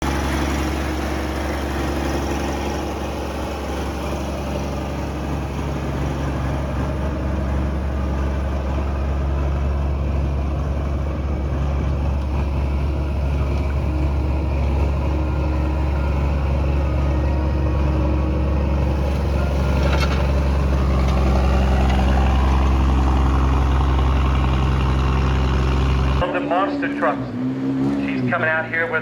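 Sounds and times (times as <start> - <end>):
large engine idling: 0.0 - 27.1.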